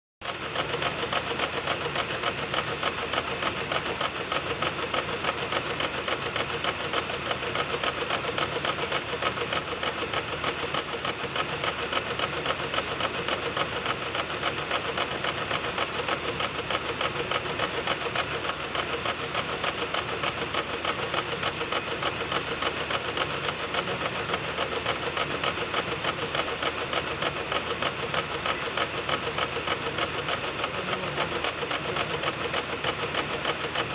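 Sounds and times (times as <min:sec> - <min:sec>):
disc drive clicking: 0:00.2 - 0:33.9
spinning disc whir: 0:00.2 - 0:33.9.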